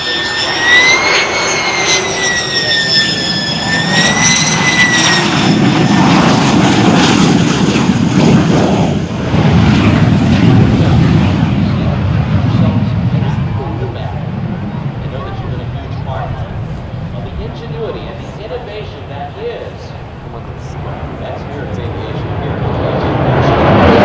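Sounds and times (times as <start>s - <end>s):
deep jet roar: 0.0s - 24.0s
high wavering jet whine: 0.0s - 24.0s.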